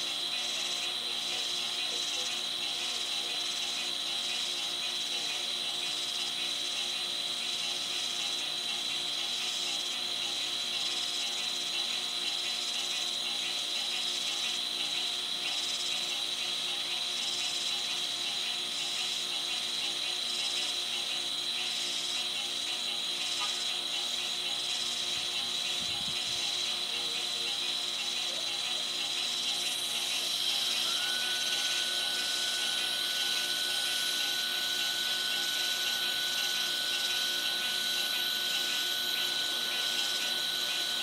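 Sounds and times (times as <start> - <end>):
crickets trilling: 0.0 - 41.0
high pulsing insect buzz: 0.0 - 41.0.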